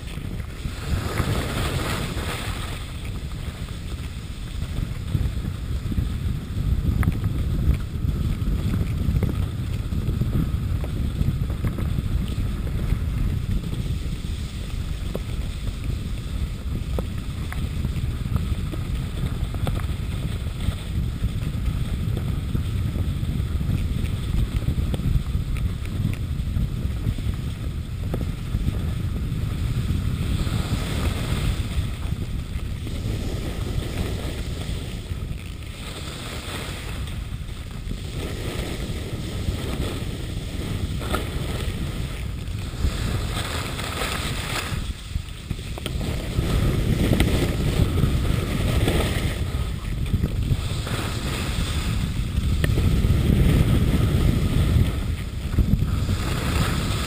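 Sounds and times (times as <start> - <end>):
skis scraping on snow: 0.0 - 57.0
wind noise on microphone: 0.0 - 57.0.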